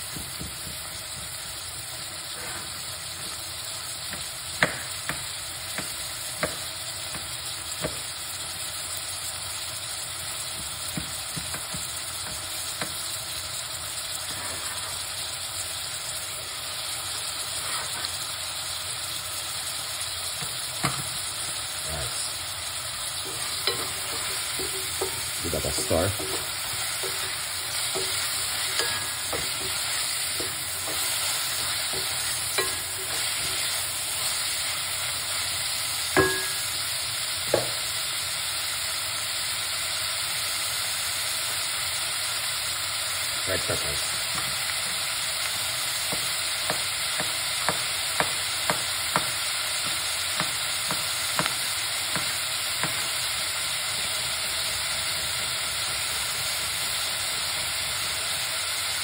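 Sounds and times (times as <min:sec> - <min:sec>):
vegetables sizzling in a pot: 0:00.0 - 0:59.0.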